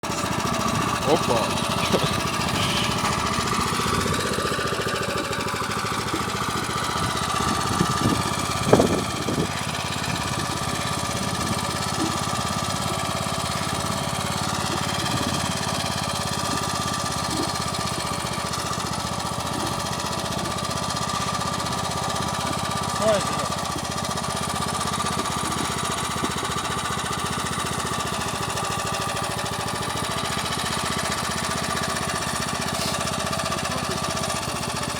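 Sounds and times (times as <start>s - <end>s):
walk-behind tractor engine running: 0.0s - 34.9s.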